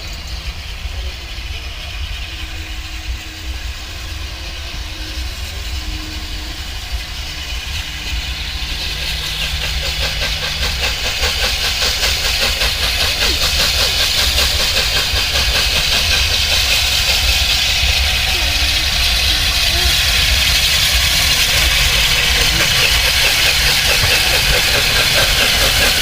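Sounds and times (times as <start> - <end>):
rapid steam exhaust beats: 0.0 - 26.0
steam locomotive hiss: 0.0 - 26.0.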